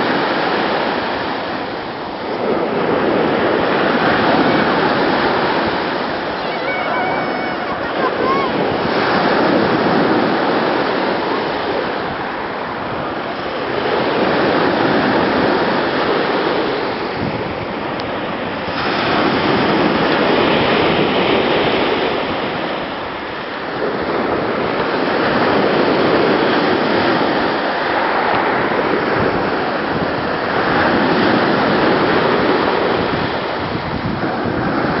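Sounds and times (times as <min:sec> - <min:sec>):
waves breaking on shore: 0:00.0 - 0:35.0.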